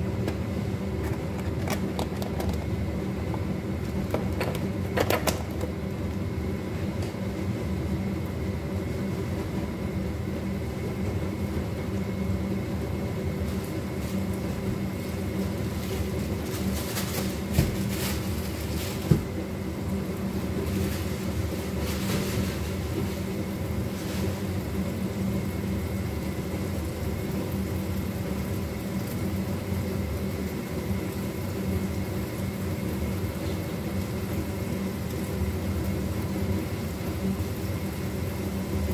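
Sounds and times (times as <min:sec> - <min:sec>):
extractor fan humming: 0:00.0 - 0:38.9.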